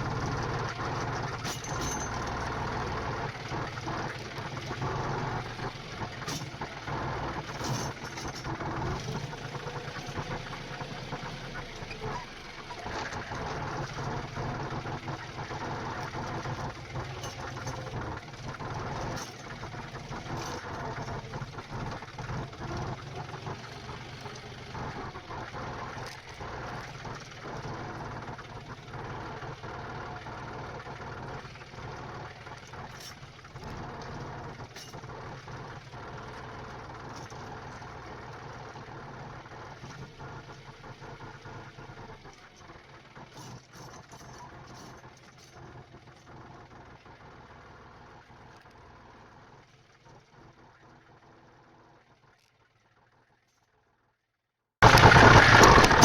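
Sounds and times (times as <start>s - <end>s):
tractor diesel engine running: 0.0s - 51.8s, 54.8s - 56.0s.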